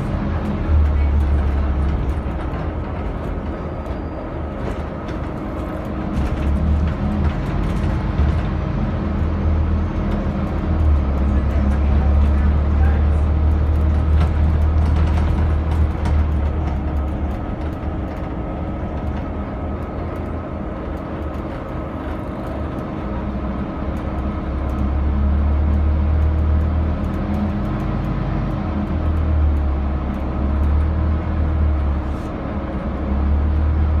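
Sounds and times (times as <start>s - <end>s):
interior clicks and rattles: 0.0s - 32.0s
bus engine droning: 0.0s - 34.0s.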